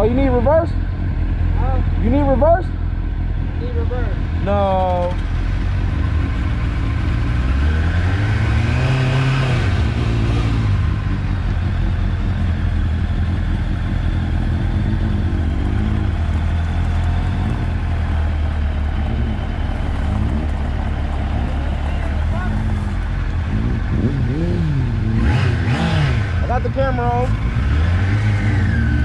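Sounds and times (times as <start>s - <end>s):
motorcycle engines idling and revving: 0.0s - 29.0s.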